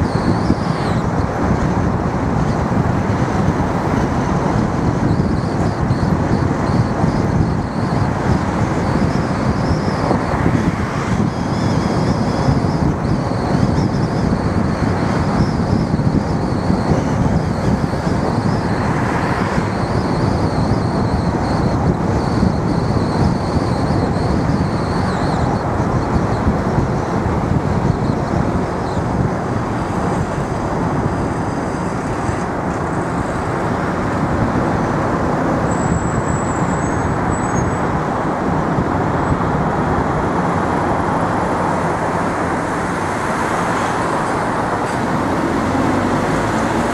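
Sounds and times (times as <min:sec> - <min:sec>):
tyre and engine rumble: 0:00.0 - 0:46.9.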